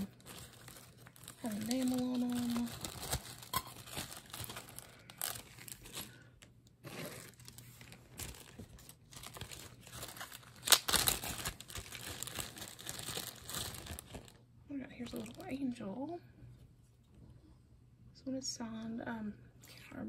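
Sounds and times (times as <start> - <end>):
plastic packaging crinkling: 0.0 - 16.1.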